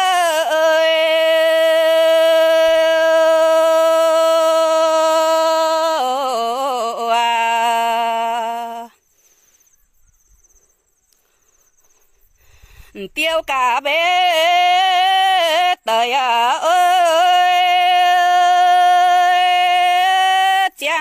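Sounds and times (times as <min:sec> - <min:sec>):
woman singing unaccompanied: 0:00.0 - 0:09.0, 0:12.9 - 0:21.0.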